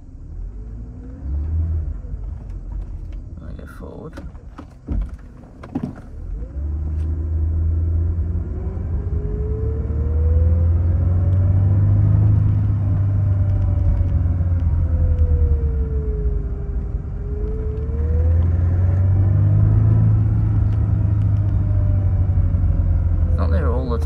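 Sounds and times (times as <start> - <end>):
car engine rumble from inside cabin: 0.0 - 24.0.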